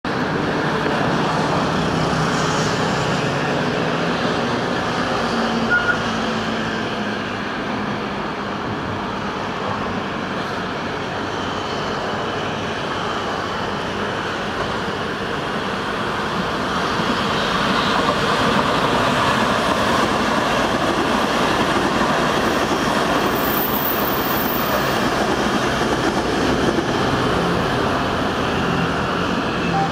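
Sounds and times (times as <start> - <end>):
train rumbling on rails: 0.1 - 29.9.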